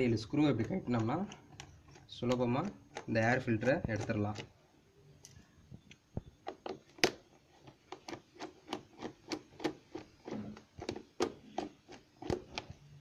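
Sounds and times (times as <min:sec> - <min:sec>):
screwdriver clicking and scraping screws: 0:00.0 - 0:04.6, 0:06.4 - 0:12.9.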